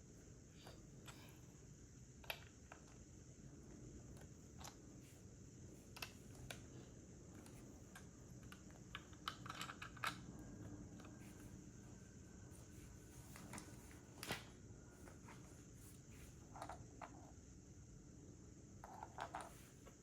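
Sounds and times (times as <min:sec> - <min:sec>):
quiet hiss: 0:00.0 - 0:20.0.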